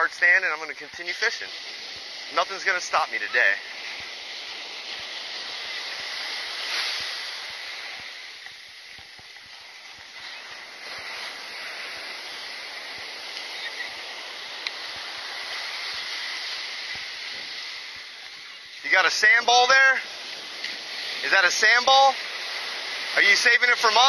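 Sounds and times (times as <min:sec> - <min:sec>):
ocean surf washing onto beach: 0:00.0 - 0:24.0.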